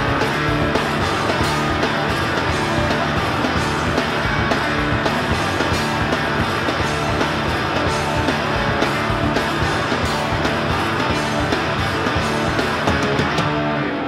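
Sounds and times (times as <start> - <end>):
drums playing: 0.0 - 14.0
electric guitar: 0.0 - 14.0.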